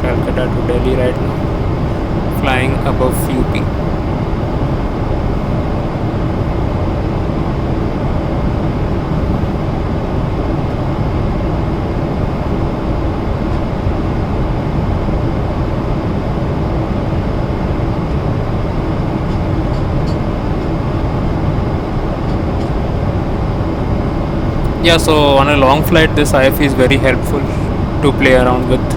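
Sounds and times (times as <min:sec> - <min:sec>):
airplane cabin noise: 0:00.0 - 0:28.9
faint steady hum: 0:00.0 - 0:28.9.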